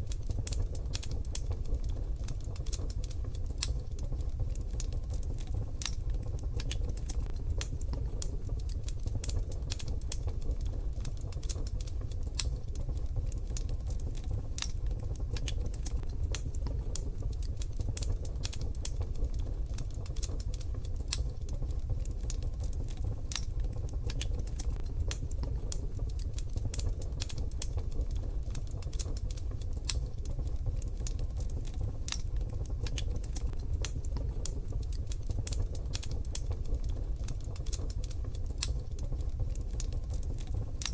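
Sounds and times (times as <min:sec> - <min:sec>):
steady low rumble: 0:00.0 - 0:40.9
wood fire crackling in stove: 0:00.0 - 0:40.9.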